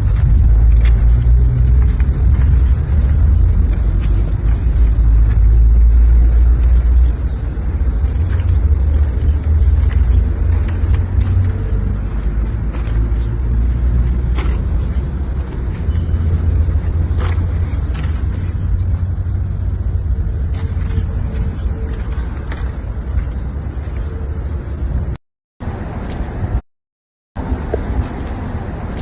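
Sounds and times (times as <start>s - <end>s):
heavy vehicle engine rumbling: 0.0s - 26.6s.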